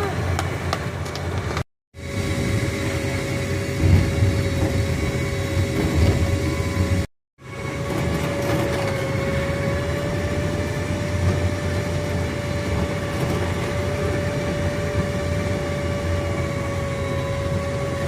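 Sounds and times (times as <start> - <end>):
constant whine: 0.0 - 18.0
rail car wheels rumbling on rail: 0.0 - 18.0.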